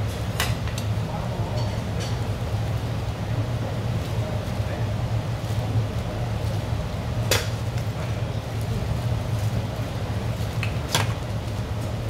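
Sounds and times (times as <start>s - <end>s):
ventilation fan humming: 0.0s - 12.0s.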